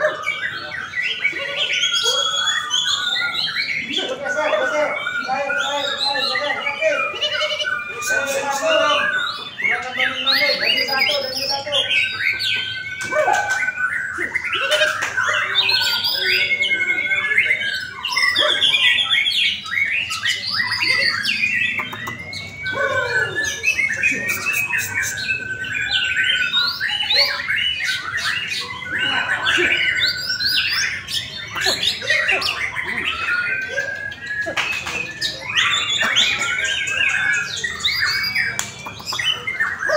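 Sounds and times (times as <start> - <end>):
songbirds singing whistles and trills: 0.0 - 39.9.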